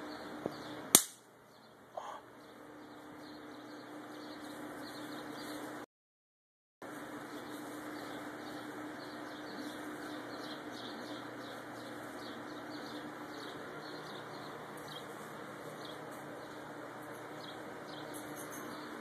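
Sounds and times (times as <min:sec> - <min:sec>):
bird chirping: 0:00.0 - 0:00.8, 0:01.5 - 0:05.7, 0:07.3 - 0:19.0.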